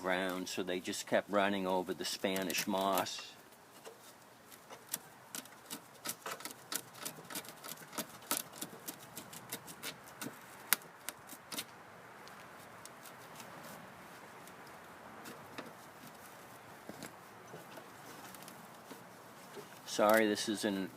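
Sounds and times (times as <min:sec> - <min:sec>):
faint steady hiss: 0:00.0 - 0:20.9.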